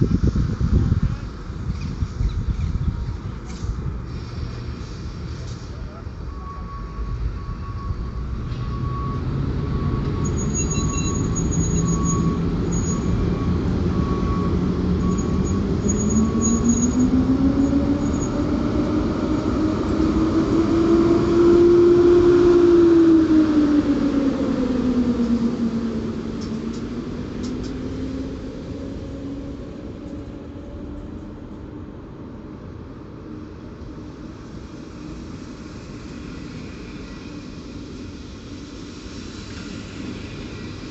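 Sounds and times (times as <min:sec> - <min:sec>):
electric locomotive hum: 0:00.0 - 0:40.9
train coaches rumbling: 0:00.0 - 0:40.9.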